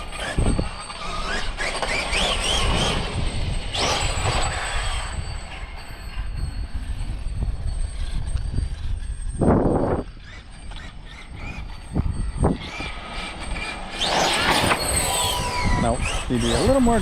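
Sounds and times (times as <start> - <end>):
rc truck motor whine: 0.0 - 17.0.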